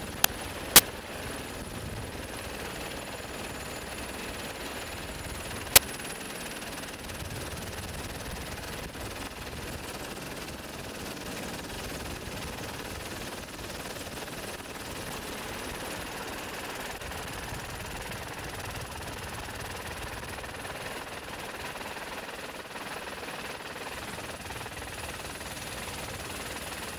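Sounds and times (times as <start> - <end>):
helicopter rotor chop: 0.0 - 26.9.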